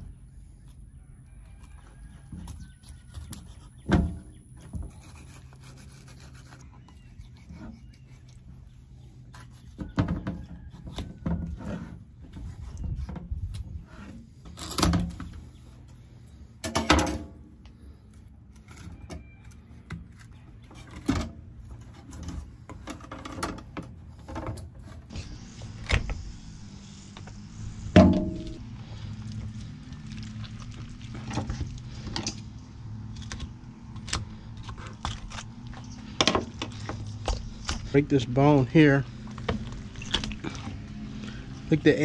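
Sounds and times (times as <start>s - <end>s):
knife cutting and scraping shell: 1.4s - 16.8s, 17.6s - 26.4s, 28.1s - 38.6s.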